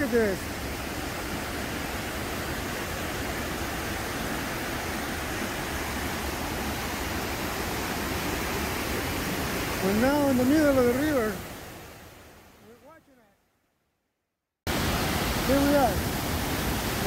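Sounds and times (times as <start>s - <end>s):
waterfall and rapids roaring: 0.0s - 13.4s, 14.7s - 17.0s.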